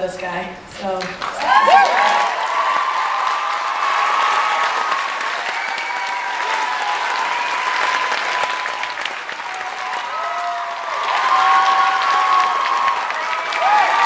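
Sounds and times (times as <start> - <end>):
audience applause: 1.1 - 14.0.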